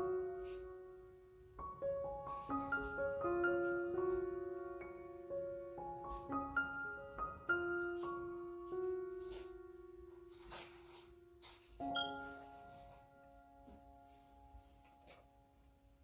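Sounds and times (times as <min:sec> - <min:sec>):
soft piano melody: 0:00.0 - 0:16.0.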